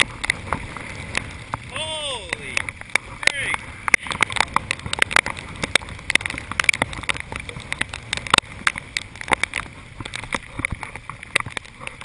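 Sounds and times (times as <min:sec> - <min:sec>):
rain tapping on glass: 0:00.0 - 0:12.0.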